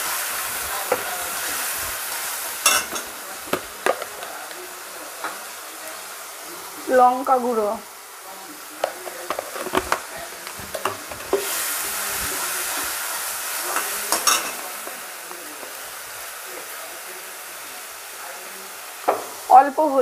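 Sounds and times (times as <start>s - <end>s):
paste sizzling in oil: 0.0s - 20.0s.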